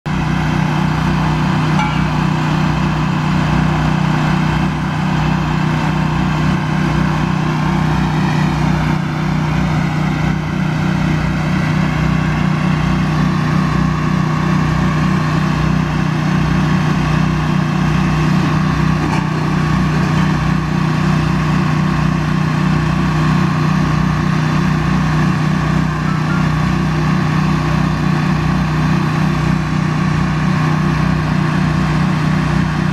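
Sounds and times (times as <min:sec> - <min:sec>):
crane engine running: 0:00.1 - 0:32.9.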